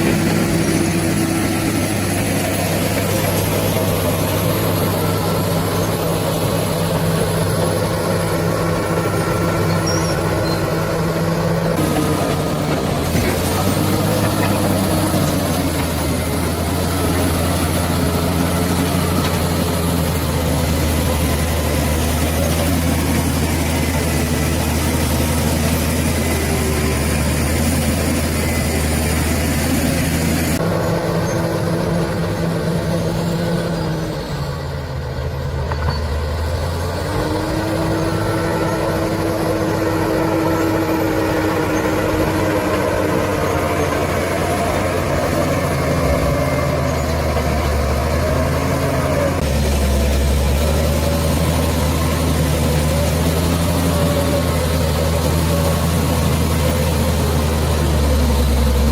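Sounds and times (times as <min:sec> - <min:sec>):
bulldozer diesel engine drone: 0:00.0 - 0:58.9.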